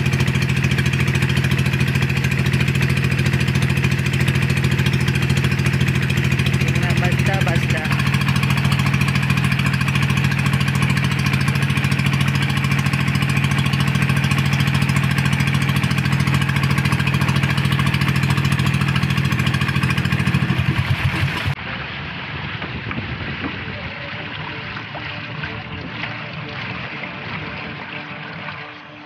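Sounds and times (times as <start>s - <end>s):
motorboat engine putter: 0.0s - 21.6s, 22.6s - 29.0s.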